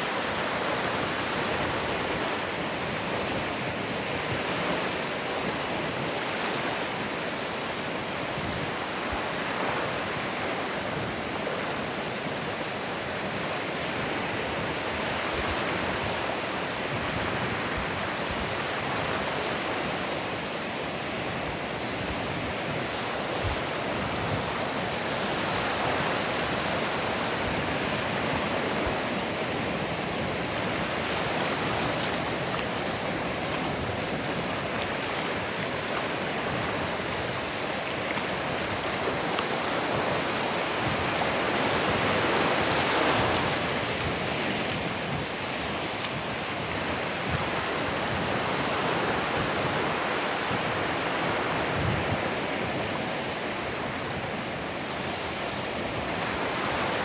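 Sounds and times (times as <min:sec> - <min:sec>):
ocean surf washing onto beach: 0:00.0 - 0:57.0.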